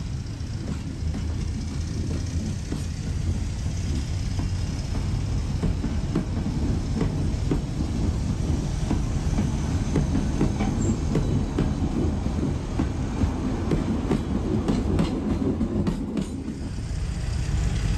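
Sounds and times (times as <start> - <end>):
train rumbling on track: 0.0 - 17.9
wheels clacking over rail joints: 0.0 - 17.9.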